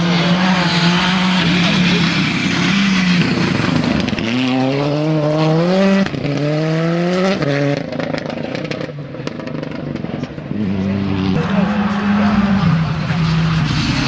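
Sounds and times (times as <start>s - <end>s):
another engine: 0.0s - 14.0s
rally car engine accelerating: 0.0s - 14.0s.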